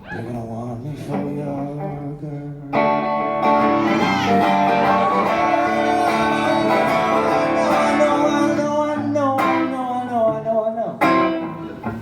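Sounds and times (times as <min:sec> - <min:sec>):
man singing: 0:00.0 - 0:11.4
guitar accompaniment: 0:00.0 - 0:12.0.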